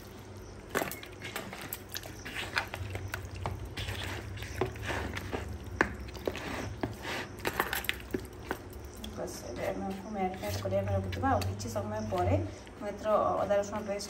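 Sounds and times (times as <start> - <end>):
hands squelching wet marinade: 0.0 - 12.8.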